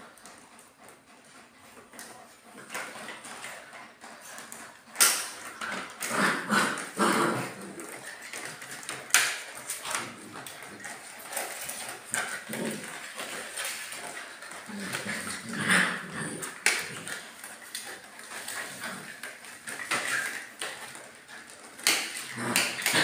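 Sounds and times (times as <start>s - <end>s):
puppies vocalizing: 0.0s - 23.0s.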